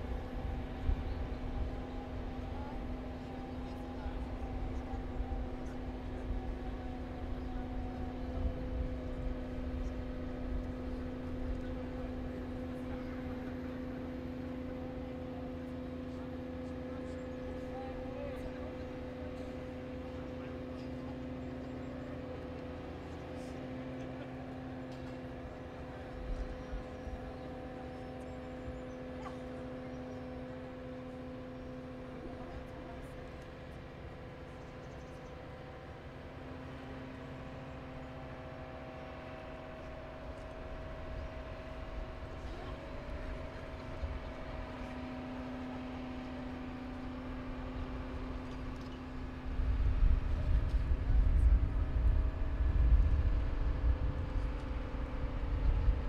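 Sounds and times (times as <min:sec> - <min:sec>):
crane diesel engine droning: 0:00.0 - 0:56.0.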